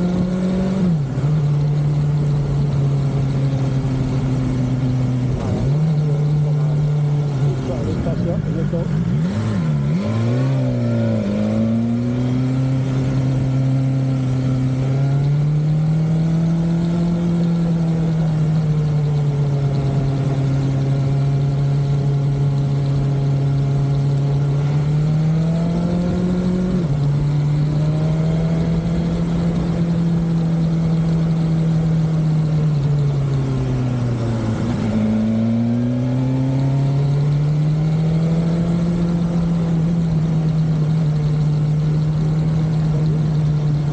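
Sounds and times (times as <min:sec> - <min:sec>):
motorcycle engine: 0:00.0 - 0:43.9.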